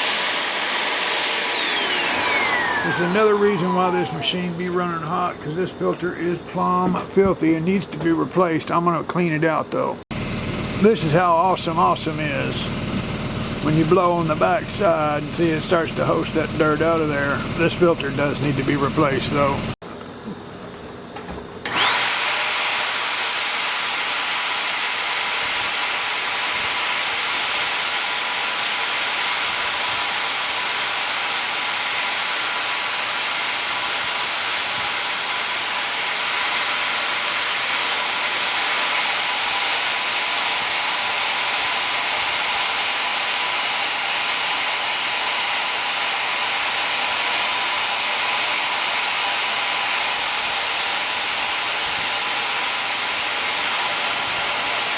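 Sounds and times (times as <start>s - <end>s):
high-speed electric motor whine: 0.0s - 5.0s, 10.1s - 19.8s, 21.6s - 54.9s.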